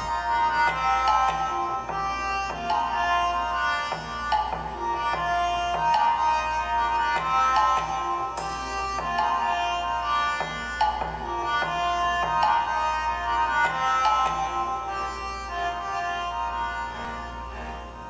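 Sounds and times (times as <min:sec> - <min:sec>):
instrumental music with drum beat: 0:00.0 - 0:14.7.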